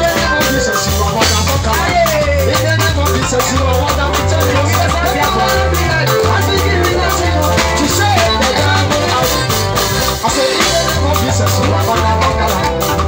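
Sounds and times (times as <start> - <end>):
bass line: 0.0 - 13.0
electric guitar: 0.0 - 13.0
keyboard: 0.0 - 13.0
man singing: 0.0 - 13.0
percussion: 0.0 - 13.0.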